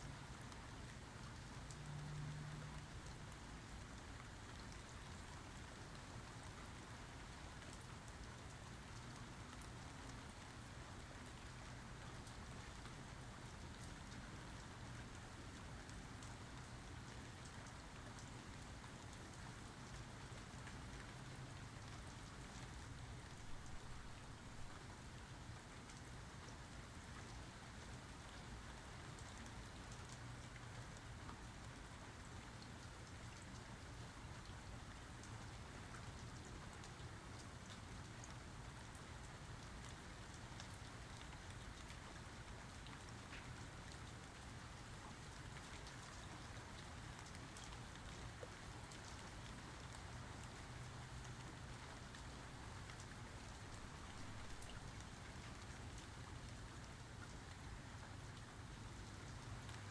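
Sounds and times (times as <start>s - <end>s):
rain falling: 0.2s - 59.9s.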